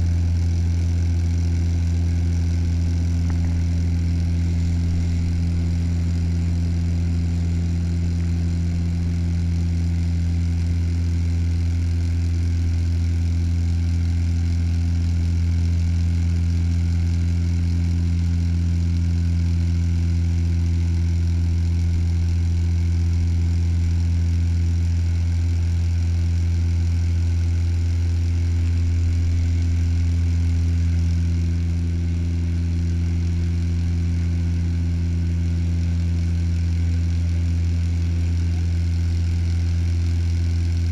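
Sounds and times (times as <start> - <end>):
propeller engine drone in cabin: 0.0 - 40.9.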